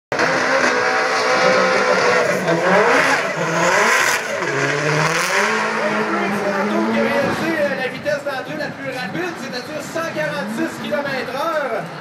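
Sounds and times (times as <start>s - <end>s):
race car engine revving: 0.1s - 8.0s, 8.6s - 12.0s.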